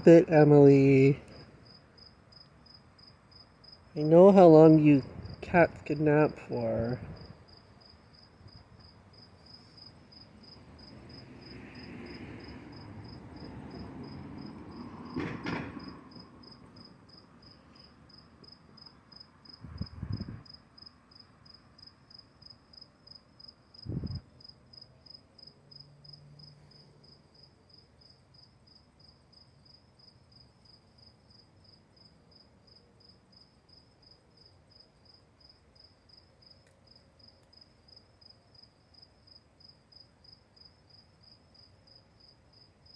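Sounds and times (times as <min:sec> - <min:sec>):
cricket chirping: 0:01.2 - 0:03.9, 0:06.2 - 0:42.9.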